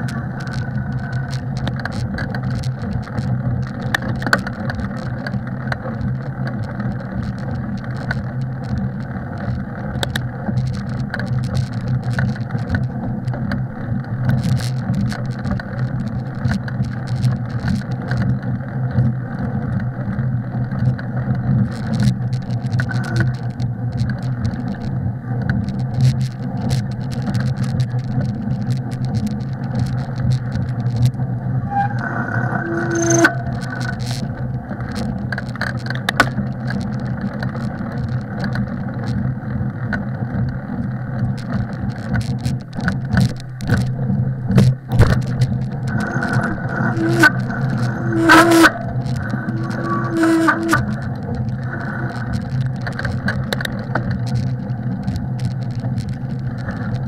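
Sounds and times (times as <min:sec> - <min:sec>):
bike clicks and rattles: 0:00.0 - 0:57.0
bike tyres rumbling on snow: 0:00.0 - 0:57.0
wind: 0:00.0 - 0:57.0.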